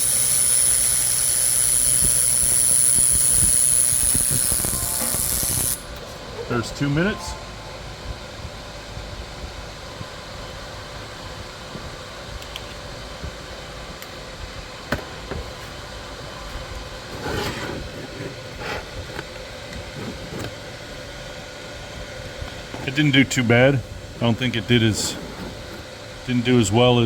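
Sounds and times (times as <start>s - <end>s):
machine hum with faint whine: 0.0s - 27.0s.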